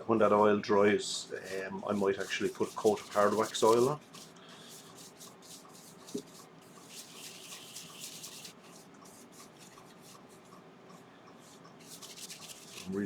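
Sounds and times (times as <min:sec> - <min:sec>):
cloth rubbing wooden bowl: 0:00.0 - 0:10.5, 0:11.4 - 0:13.0.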